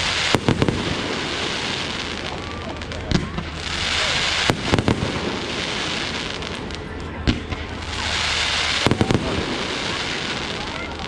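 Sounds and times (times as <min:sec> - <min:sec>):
fireworks bangs: 0:00.0 - 0:11.0
steady hiss: 0:00.0 - 0:11.0.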